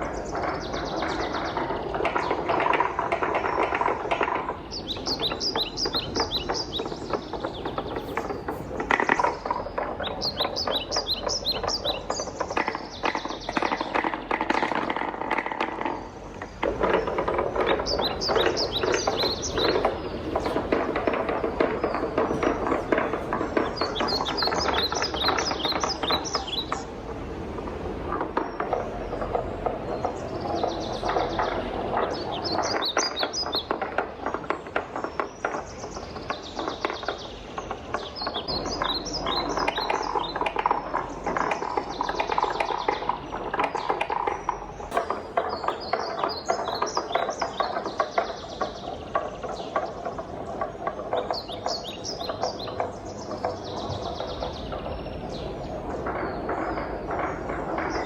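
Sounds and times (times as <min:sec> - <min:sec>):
wooden balls rolling: 0:00.0 - 0:58.0.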